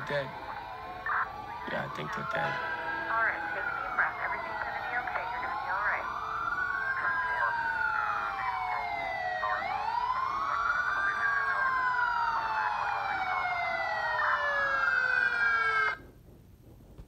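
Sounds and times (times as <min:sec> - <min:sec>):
siren gliding down: 0:00.0 - 0:16.0
siren rising and falling: 0:00.0 - 0:16.0.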